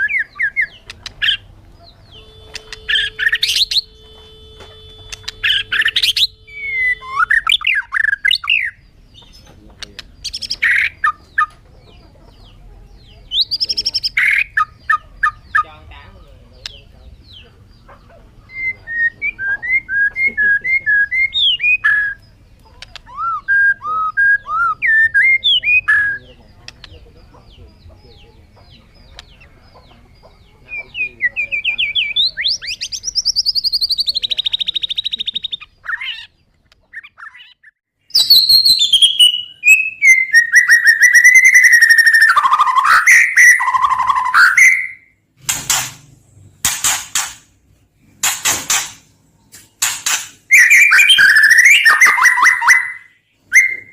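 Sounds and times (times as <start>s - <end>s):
bird harsh notes: 0.0s - 11.6s, 13.2s - 26.8s, 27.6s - 53.9s
songbird singing whistled notes: 0.0s - 45.2s, 50.5s - 53.9s.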